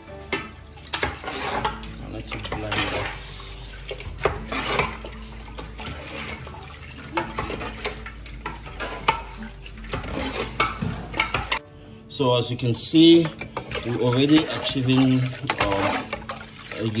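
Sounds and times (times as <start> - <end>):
spoon scraping metal pot: 0.3 - 11.6, 13.2 - 17.0.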